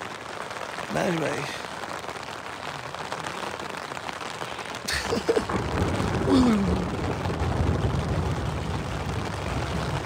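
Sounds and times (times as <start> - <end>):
heavy rain on a tent: 0.0 - 10.0.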